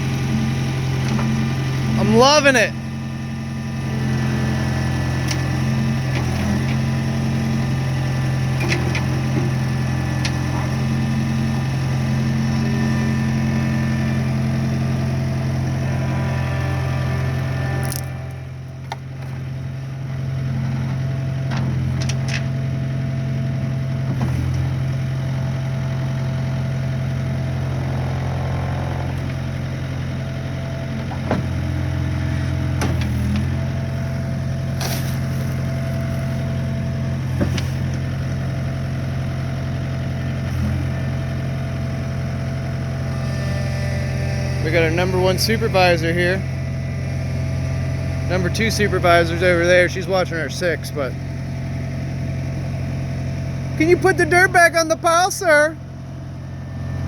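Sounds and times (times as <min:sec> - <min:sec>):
skid steer engine running: 0:00.0 - 0:57.0.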